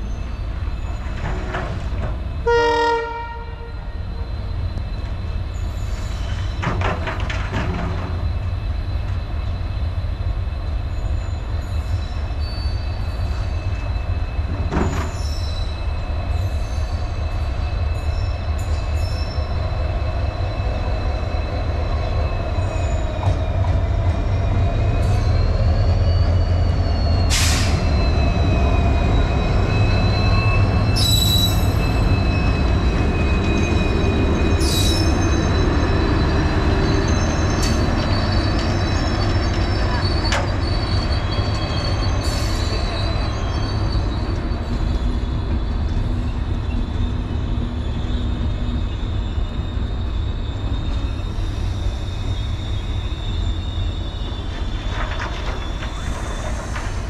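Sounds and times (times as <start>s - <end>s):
locomotive engine rumble: 0.0s - 57.0s
high-pitched wheel squeal: 10.9s - 57.0s.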